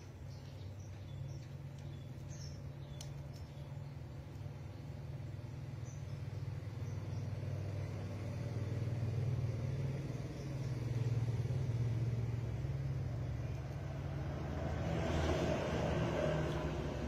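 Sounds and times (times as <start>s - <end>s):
low motor rumble: 0.0s - 17.0s.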